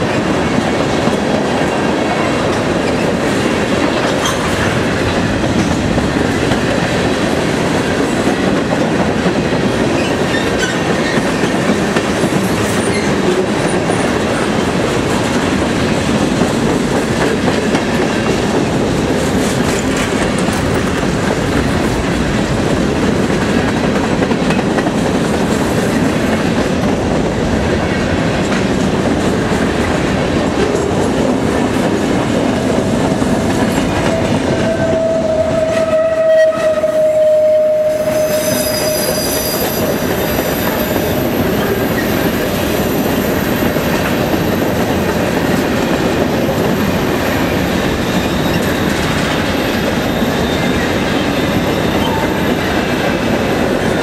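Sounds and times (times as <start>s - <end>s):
freight train wheels clattering: 0.0s - 54.0s.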